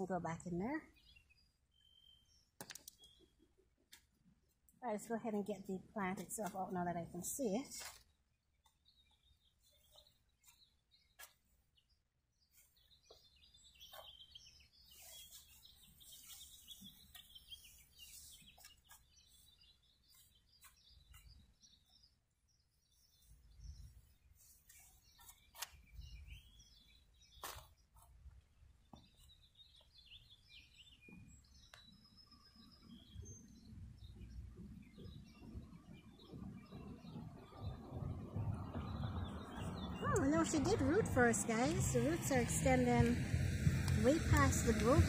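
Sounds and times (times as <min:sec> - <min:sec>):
faint birds chirping: 0:00.0 - 0:45.0.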